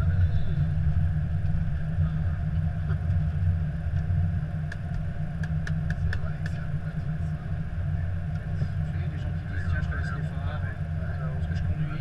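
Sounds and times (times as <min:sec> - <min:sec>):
cockpit engine rumble: 0:00.0 - 0:12.0.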